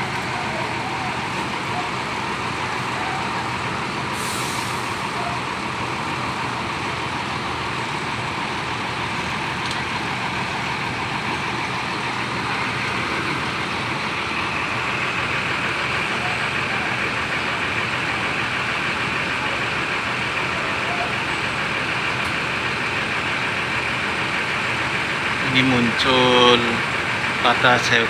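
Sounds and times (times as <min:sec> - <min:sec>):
diesel bus engines idling: 0:00.0 - 0:28.0.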